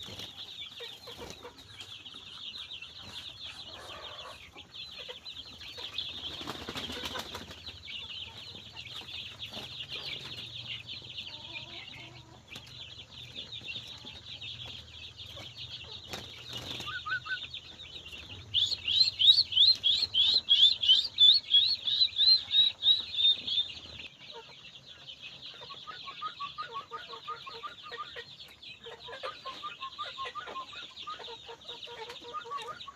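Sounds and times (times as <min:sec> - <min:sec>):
bird chirping: 0:00.0 - 0:32.9.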